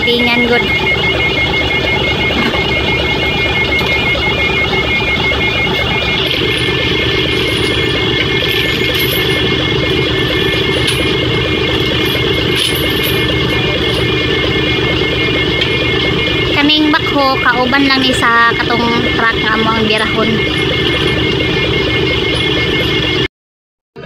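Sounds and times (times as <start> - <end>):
diesel machinery engine running: 0.0 - 23.3
rapidly pulsing high beep: 0.0 - 23.3.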